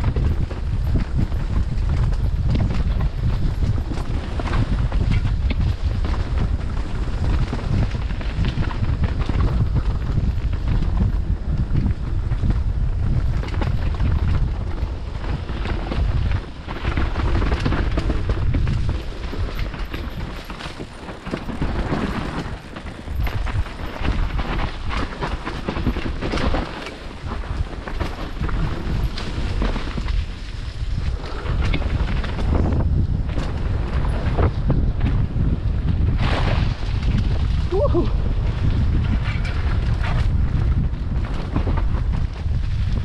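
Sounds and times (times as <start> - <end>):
bike rattling and knocking: 0.0 - 43.0
wind rumbling on microphone: 0.0 - 43.0.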